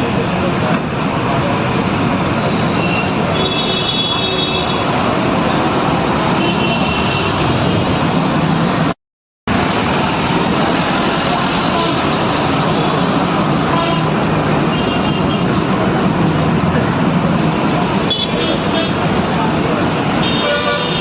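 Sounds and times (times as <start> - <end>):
busy road traffic: 0.0 - 21.0.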